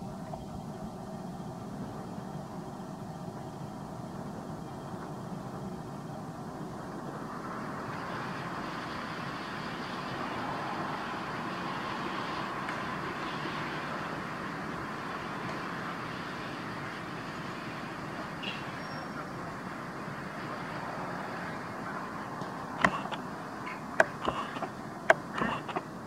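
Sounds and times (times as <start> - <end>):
distant road traffic: 0.0 - 26.0.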